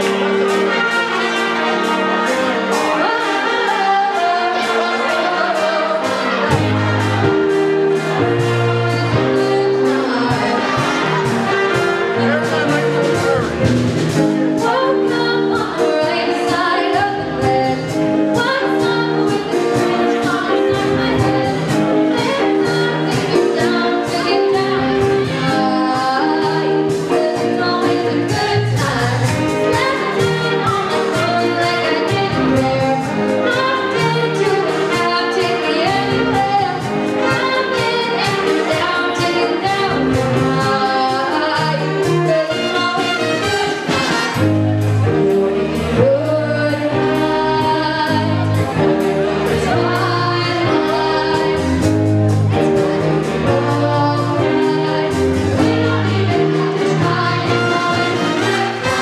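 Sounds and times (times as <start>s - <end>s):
person singing: 0.0s - 44.5s, 45.8s - 59.0s
jazz big band playing: 0.0s - 59.0s.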